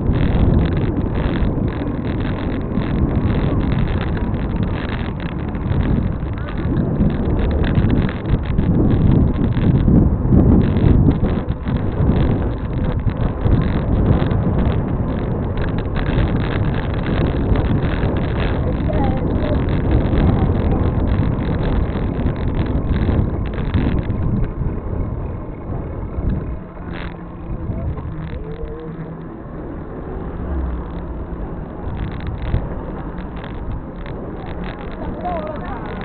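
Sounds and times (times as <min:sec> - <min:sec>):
road traffic: 0:00.0 - 0:36.0
steady low hum: 0:00.0 - 0:36.0
wind on microphone: 0:00.0 - 0:36.0.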